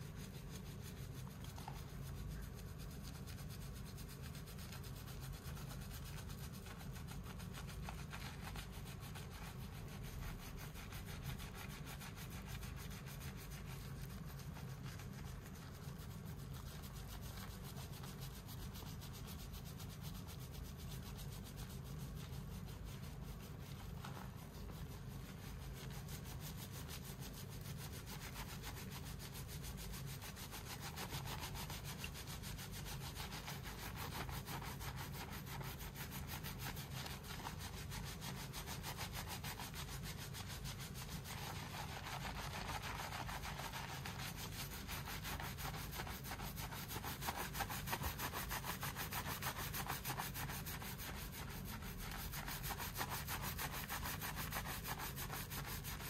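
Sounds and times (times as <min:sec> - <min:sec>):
fingers scrubbing lathered hair: 0:00.0 - 0:56.0.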